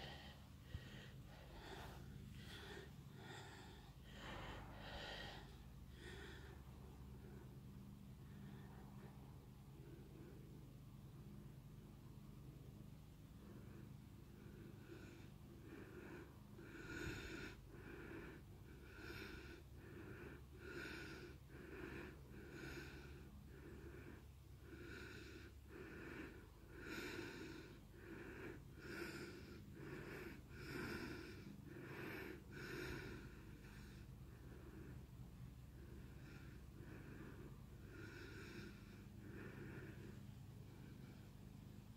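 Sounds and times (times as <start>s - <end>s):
person breathing heavily: 0.0s - 11.0s, 13.4s - 41.9s.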